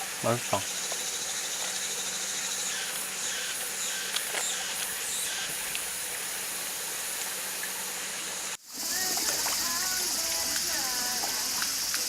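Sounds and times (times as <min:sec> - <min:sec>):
high insect drone: 0:00.0 - 0:12.0
outdoor hiss: 0:00.0 - 0:12.0.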